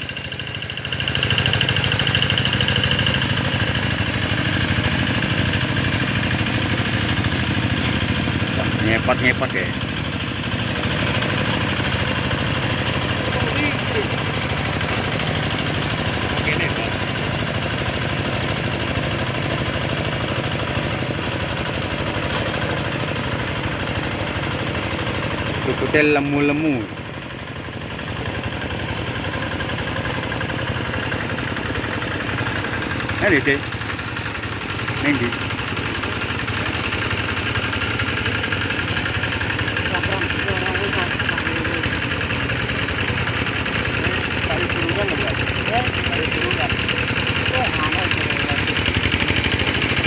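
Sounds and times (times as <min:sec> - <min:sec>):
tractor engine chugging: 0:00.0 - 0:50.0.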